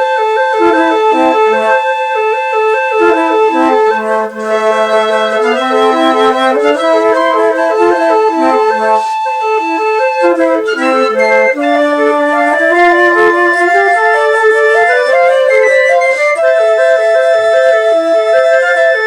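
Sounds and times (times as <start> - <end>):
flute ensemble: 0.0 - 19.0.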